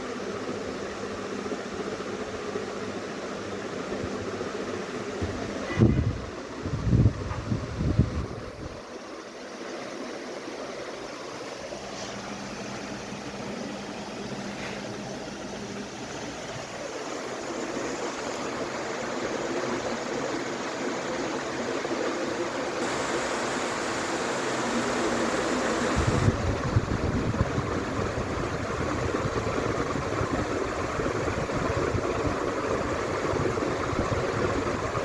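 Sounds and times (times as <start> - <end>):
ceiling fan air rush: 0.0 - 35.0.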